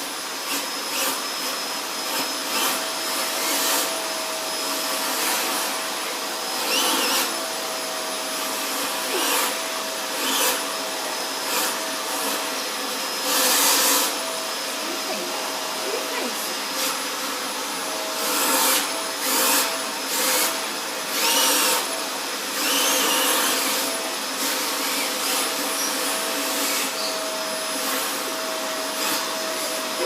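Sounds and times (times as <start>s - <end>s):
vacuum cleaner whining: 0.0s - 30.0s.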